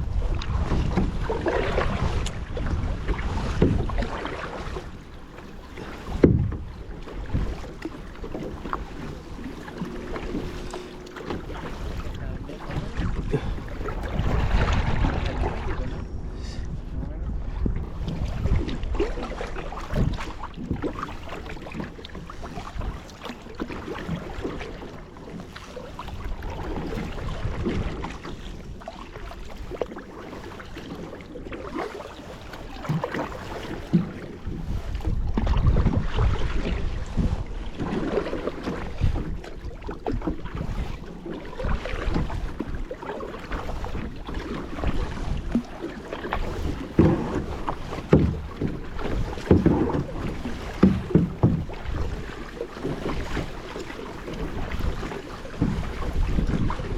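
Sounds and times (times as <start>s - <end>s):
wind rumbling on microphone: 0.0s - 29.9s, 32.6s - 53.6s, 54.2s - 56.9s
water splashing around kayak: 0.0s - 56.9s.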